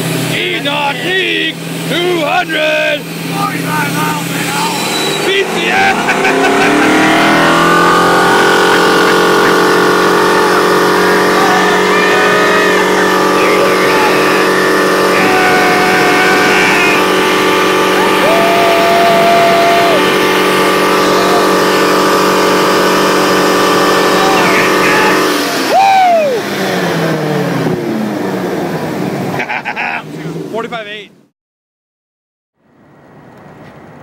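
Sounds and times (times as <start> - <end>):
boat engine running at high revs: 0.0 - 30.7.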